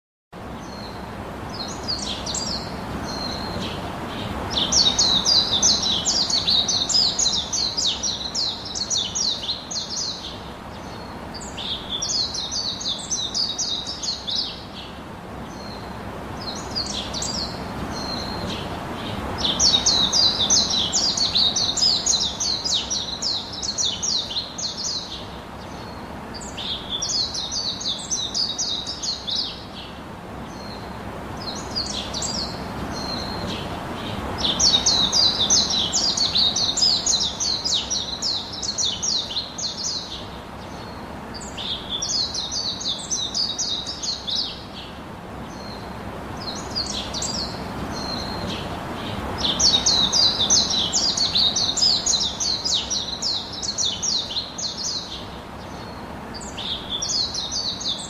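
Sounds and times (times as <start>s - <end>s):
steady background hiss: 0.4s - 58.0s
bird chirping: 0.6s - 58.0s.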